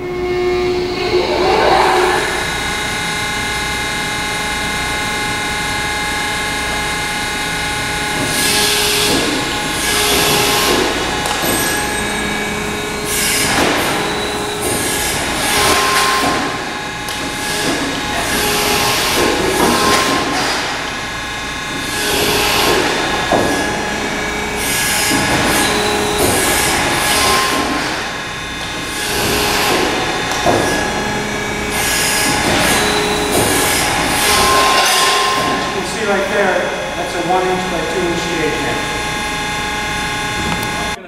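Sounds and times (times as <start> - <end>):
machine mechanical whine: 0.0 - 41.0
moving machine beams rushing: 0.0 - 41.0.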